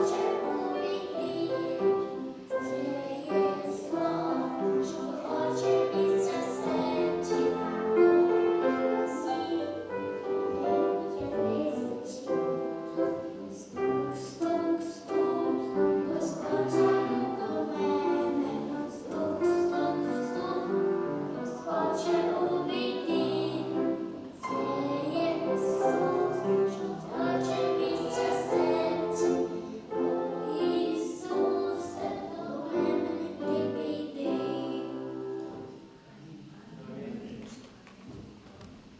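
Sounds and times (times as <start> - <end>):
musical accompaniment: 0.0 - 36.0
choir singing: 0.0 - 37.3.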